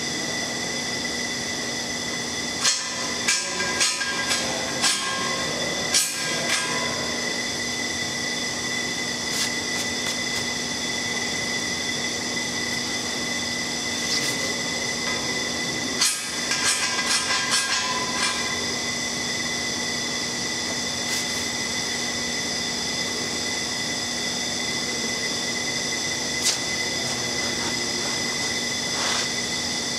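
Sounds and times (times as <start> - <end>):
whining tones: 0.0 - 29.9
workshop machinery hum and hiss: 0.0 - 29.9.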